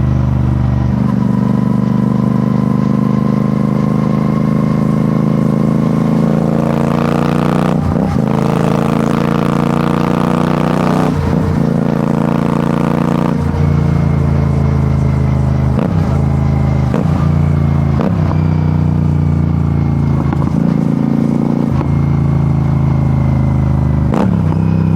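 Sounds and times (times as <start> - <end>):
gear changes: 0.0 - 24.9
motorcycle engine accelerating: 0.0 - 24.9.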